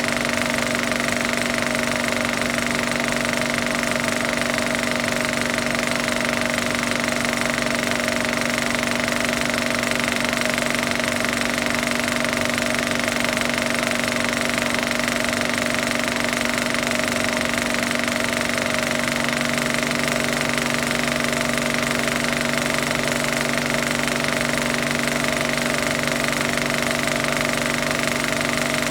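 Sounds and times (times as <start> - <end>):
film projector running: 0.0 - 28.9.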